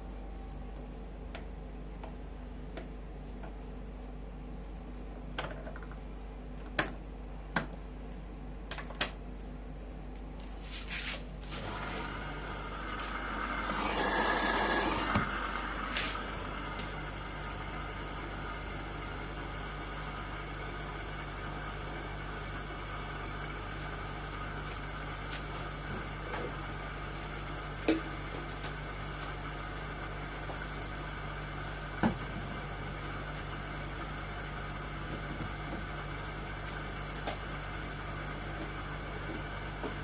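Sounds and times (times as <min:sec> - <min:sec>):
washing machine humming: 0:00.0 - 0:40.0.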